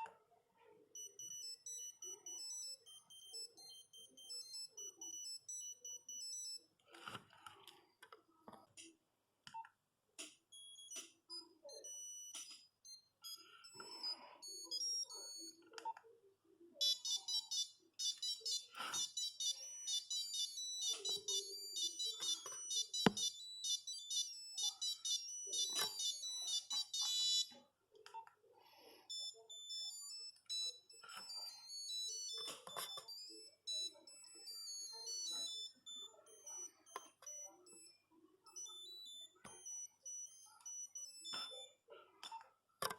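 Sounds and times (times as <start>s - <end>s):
monophonic phone ringtone beeps: 0.9s - 7.2s, 10.5s - 15.7s, 16.8s - 27.7s, 28.6s - 42.9s.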